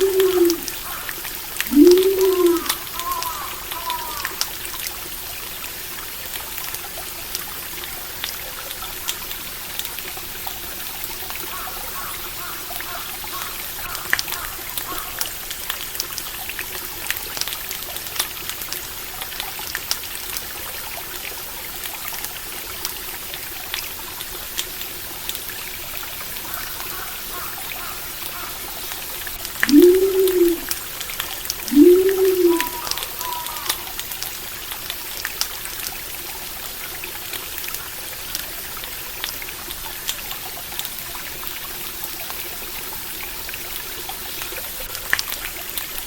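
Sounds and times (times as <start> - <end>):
water trickling: 0.0 - 46.0.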